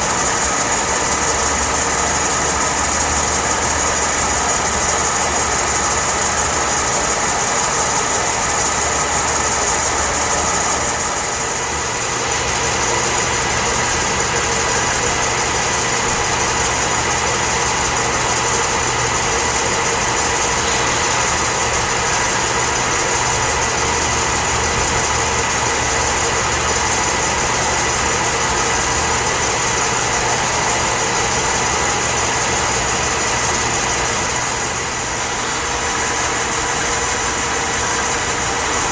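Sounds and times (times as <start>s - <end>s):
lathe running with whine: 0.0s - 38.9s.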